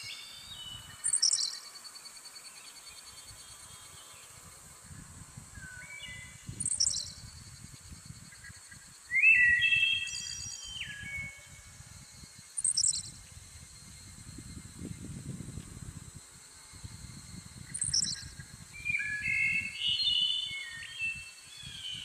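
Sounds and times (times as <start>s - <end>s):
forest birds chirping: 0.0s - 22.0s
high insect drone: 0.0s - 22.0s.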